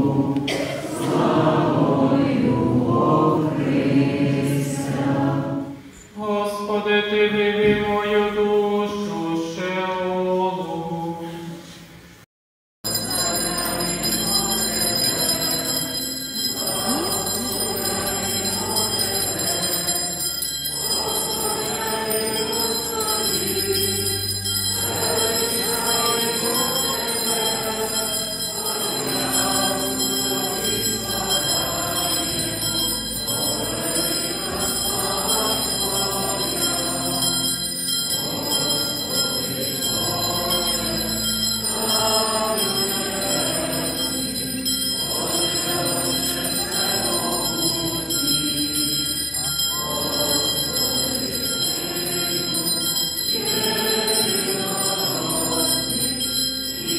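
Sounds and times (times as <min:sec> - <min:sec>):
men's choir chanting: 0:00.0 - 0:05.7, 0:13.0 - 0:24.2, 0:24.8 - 0:37.5, 0:38.2 - 0:44.4, 0:45.1 - 0:56.9.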